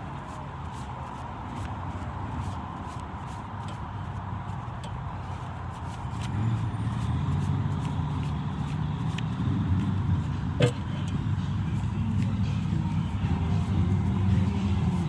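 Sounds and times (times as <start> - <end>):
vehicle engine rumbling: 0.9 - 15.0.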